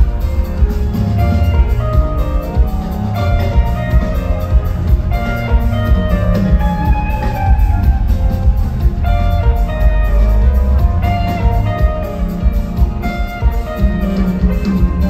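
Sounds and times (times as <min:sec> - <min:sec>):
electric guitar lines: 0:00.0 - 0:15.0
rock band playing live: 0:00.0 - 0:15.0.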